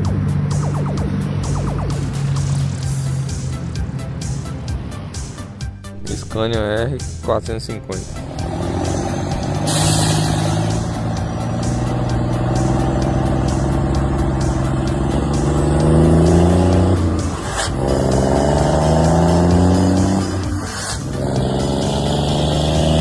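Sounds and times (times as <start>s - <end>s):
truck diesel engine accelerating: 0.0s - 23.0s.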